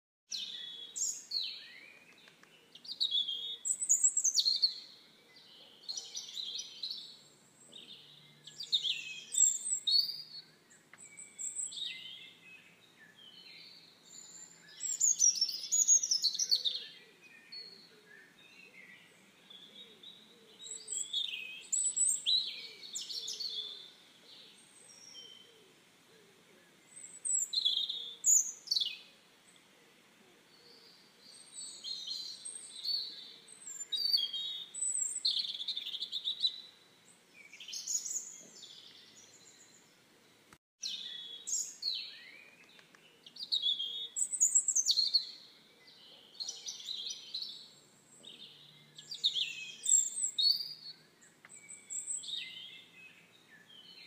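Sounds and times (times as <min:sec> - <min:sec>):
songbirds chirping: 0:00.3 - 0:54.0.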